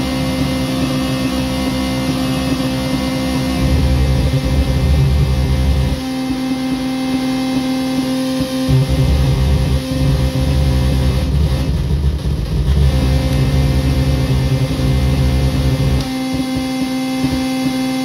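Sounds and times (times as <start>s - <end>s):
low buzzing bass: 0.0s - 18.0s.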